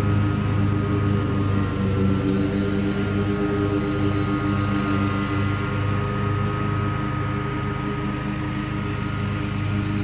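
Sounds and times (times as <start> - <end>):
mower engine running: 0.0 - 10.0.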